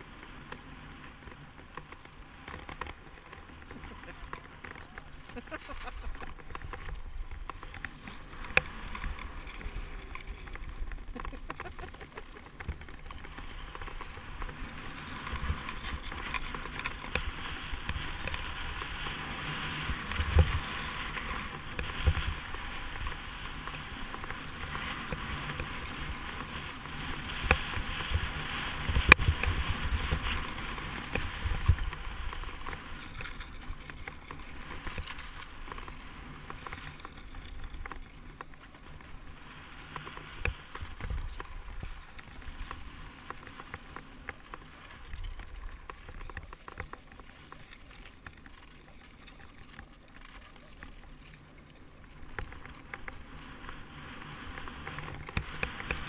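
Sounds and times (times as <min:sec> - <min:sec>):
ski scraping on hard snow: 0:00.0 - 0:56.0.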